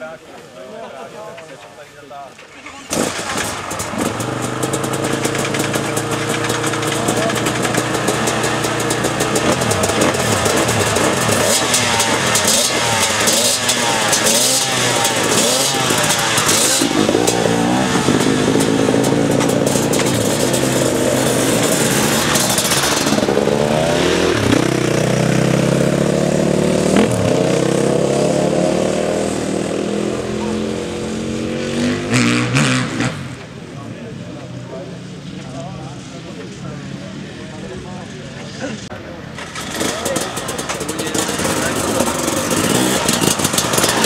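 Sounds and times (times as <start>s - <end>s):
dirt bike engines revving: 0.0s - 44.0s
motorcycles accelerating on track: 2.9s - 44.0s.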